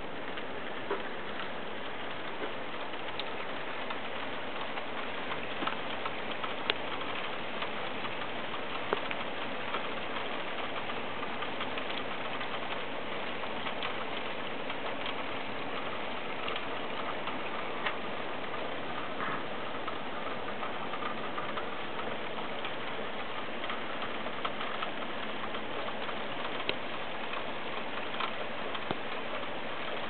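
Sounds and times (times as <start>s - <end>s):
steady hiss: 0.0s - 30.0s
faint light ticks: 0.2s - 30.0s.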